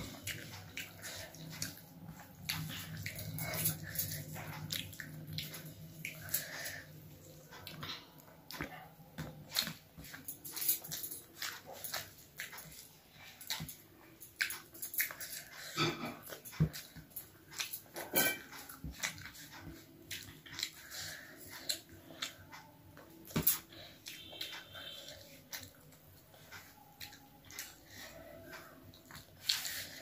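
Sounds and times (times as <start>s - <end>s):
chewing and lip-smacking: 0.0s - 30.0s.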